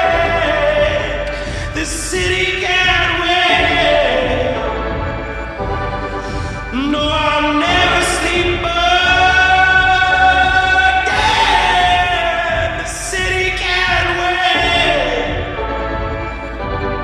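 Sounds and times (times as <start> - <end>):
band music: 0.0 - 17.0
choir-like voices holding notes: 0.0 - 17.0.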